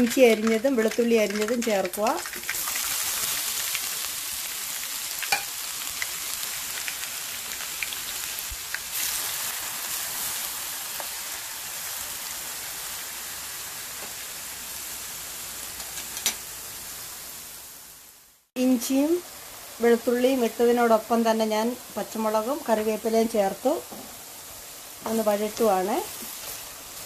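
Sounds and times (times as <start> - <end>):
garlic and ginger sizzling in oil: 0.0 - 27.0.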